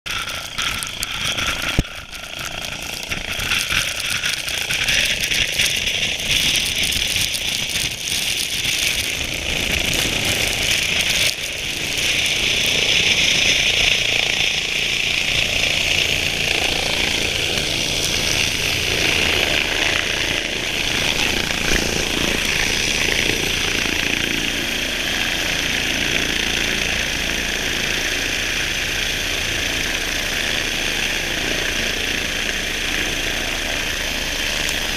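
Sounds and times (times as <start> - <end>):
helicopter rotor and turbine: 0.1 - 34.9.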